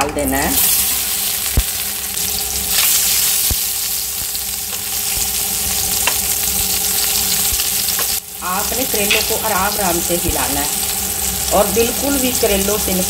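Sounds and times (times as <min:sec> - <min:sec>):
vegetables frying in hot oil: 0:00.2 - 0:13.0.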